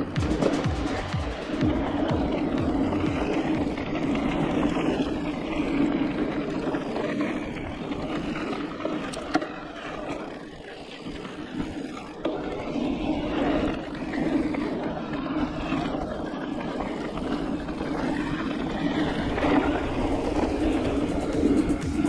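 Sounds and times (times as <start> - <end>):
bike rattle: 0.0 - 22.0
bike tyres rolling on gravel: 0.0 - 22.0.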